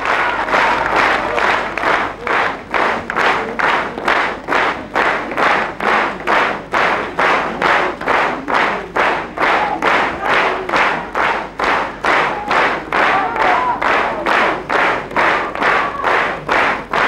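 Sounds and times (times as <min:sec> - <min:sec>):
audience applauding: 0:00.0 - 0:17.0
rhythmic clapping in unison: 0:00.0 - 0:17.0.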